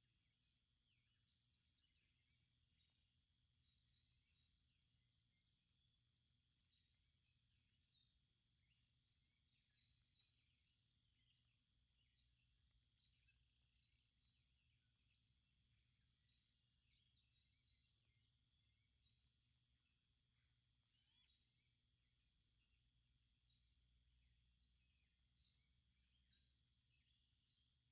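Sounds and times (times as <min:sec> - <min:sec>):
birds chirping: 0:00.0 - 0:27.9
faint steady hum: 0:00.0 - 0:27.9.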